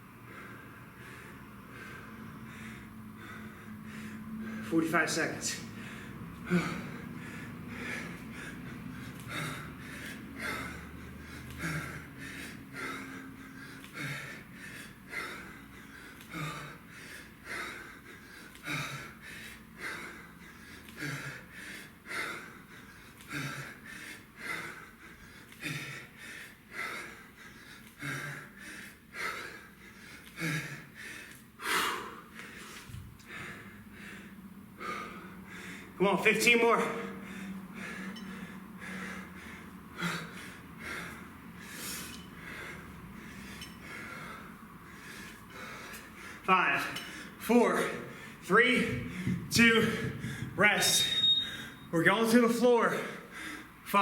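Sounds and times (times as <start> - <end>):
man breathing hard: 0.0 - 54.0.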